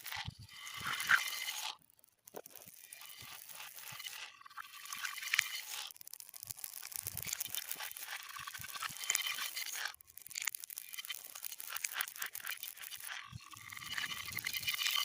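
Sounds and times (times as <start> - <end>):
beads clattering reversed: 0.0 - 15.0.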